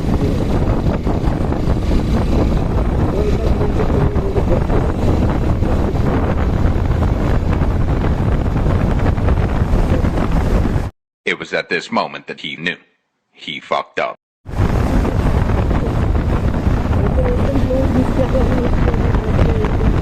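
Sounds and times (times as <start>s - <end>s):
motorcycle road and engine noise: 0.0s - 10.9s, 14.5s - 20.0s
wind rushing over microphone: 0.0s - 10.9s, 14.5s - 20.0s.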